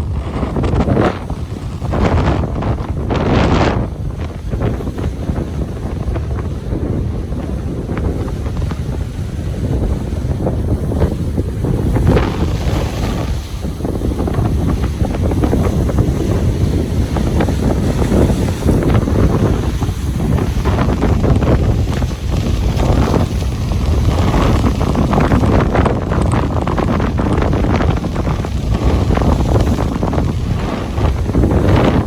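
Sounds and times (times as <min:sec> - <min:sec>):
ocean waves breaking: 0:00.0 - 0:32.0
wind buffeting microphone: 0:00.0 - 0:32.0.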